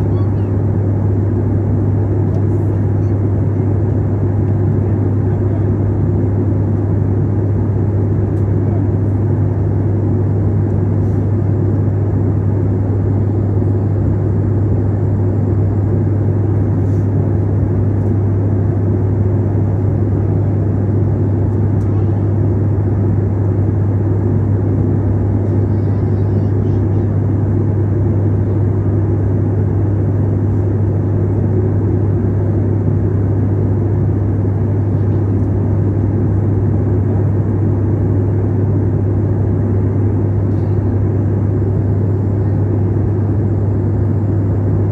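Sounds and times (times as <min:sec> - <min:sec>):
airplane cabin drone: 0:00.0 - 0:44.9.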